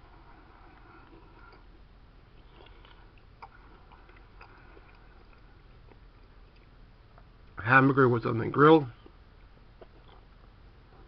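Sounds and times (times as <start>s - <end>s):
quiet chewing: 0.0s - 7.6s, 8.9s - 11.0s
low room noise: 0.0s - 11.0s.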